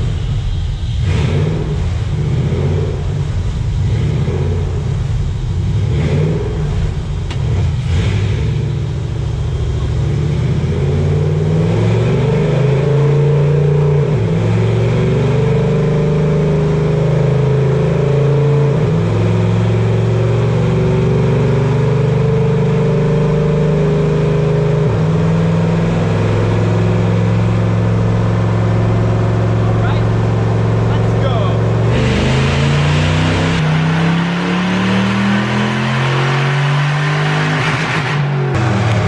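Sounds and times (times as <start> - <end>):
race truck engine at full throttle: 0.0 - 39.0.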